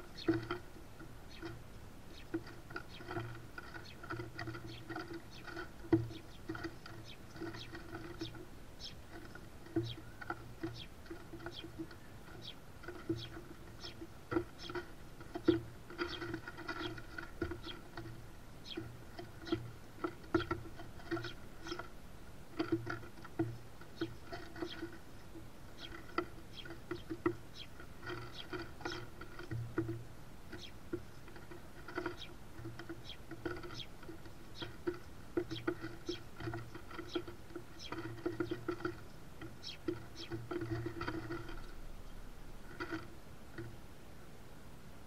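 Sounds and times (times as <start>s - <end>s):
beaks tapping on seeds and wood: 0.0s - 43.8s.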